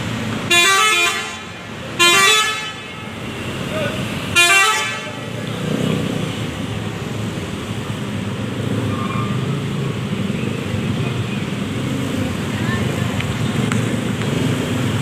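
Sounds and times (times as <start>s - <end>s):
bus engine rumbling: 0.0s - 15.0s
road traffic noise: 0.0s - 15.0s.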